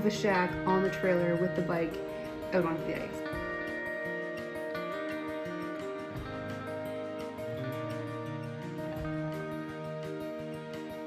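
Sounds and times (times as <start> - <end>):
soft guitar instrumental: 0.0 - 11.0.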